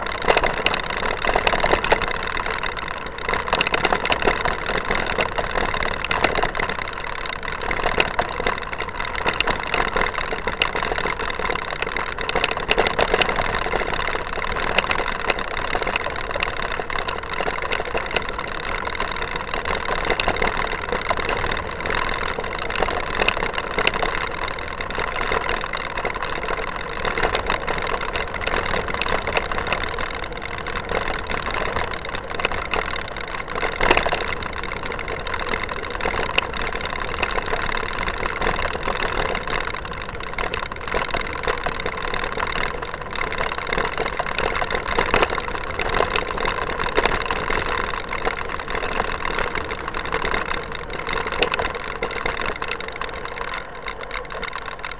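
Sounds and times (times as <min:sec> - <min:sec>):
mountain bike rattle and tyre rumble: 0:00.0 - 0:54.9.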